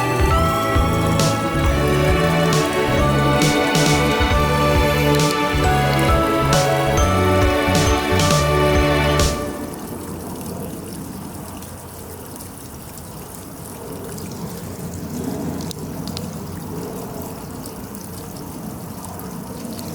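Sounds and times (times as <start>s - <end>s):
rushing water: 0.0s - 19.9s.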